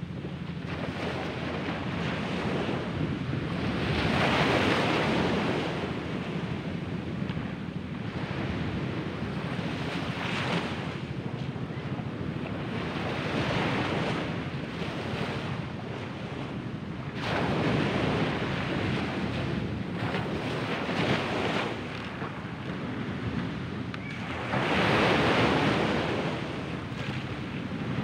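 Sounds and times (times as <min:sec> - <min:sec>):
waves washing up a beach: 0:00.0 - 0:28.0.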